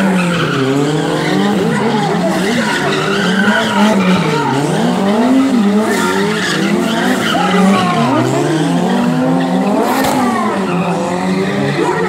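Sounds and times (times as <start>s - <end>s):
car engine revving hard: 0.0s - 12.0s
tyres skidding and squealing: 0.0s - 12.0s.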